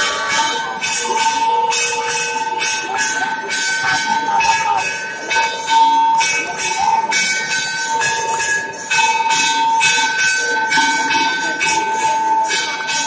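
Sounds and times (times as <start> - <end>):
temple bells ringing: 0.0 - 13.0.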